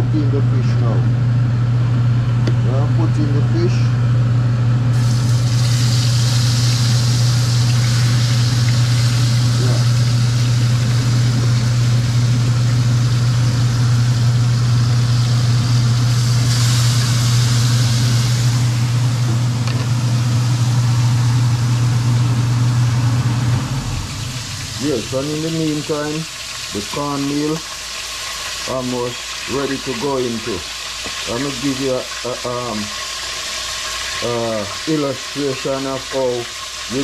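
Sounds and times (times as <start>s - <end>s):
loud low motor hum: 0.0s - 36.4s
fish sizzling in hot oil: 4.9s - 37.0s.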